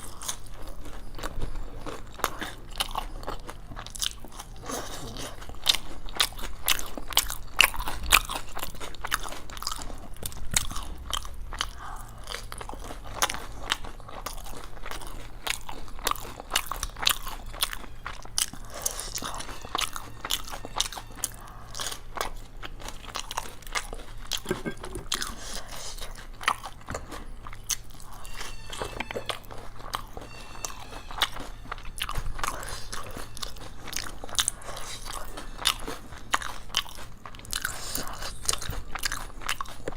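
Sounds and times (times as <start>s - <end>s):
crunchy snack chewing: 0.0s - 39.9s.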